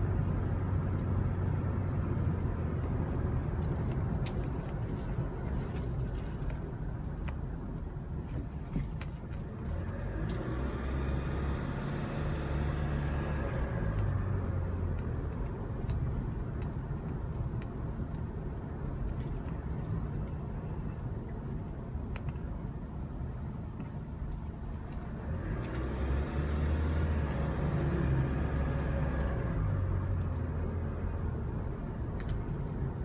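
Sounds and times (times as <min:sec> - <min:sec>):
road noise: 0:00.0 - 0:33.0
truck engine: 0:00.0 - 0:33.0.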